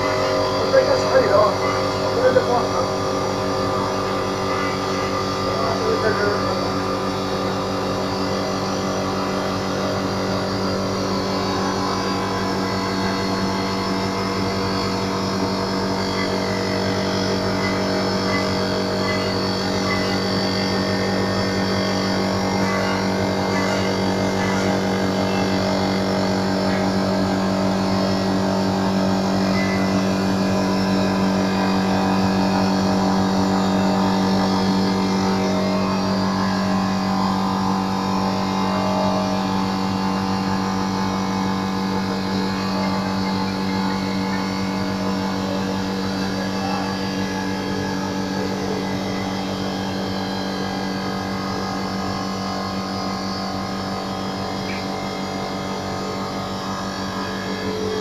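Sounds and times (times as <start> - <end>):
wood cutting noise: 0.0 - 58.0
wood lathe motor hum: 0.0 - 58.0.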